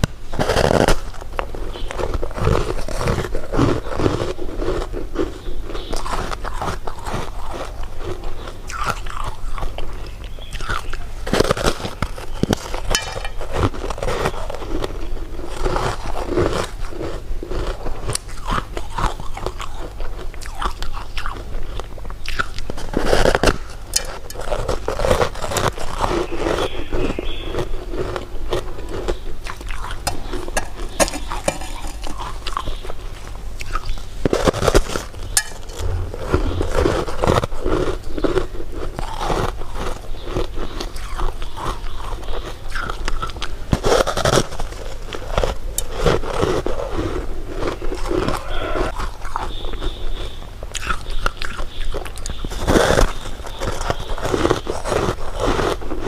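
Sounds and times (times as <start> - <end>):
crunchy chewing and bites: 0.0 - 56.0.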